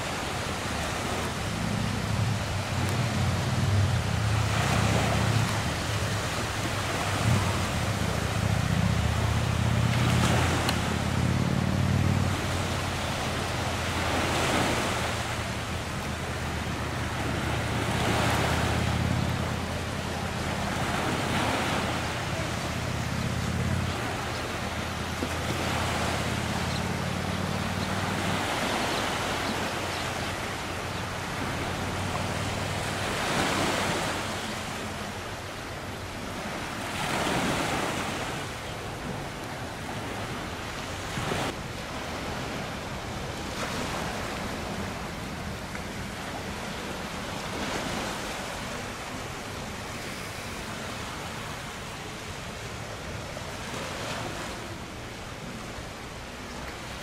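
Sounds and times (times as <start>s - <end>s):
sea water splashing around boat: 0.0s - 57.0s.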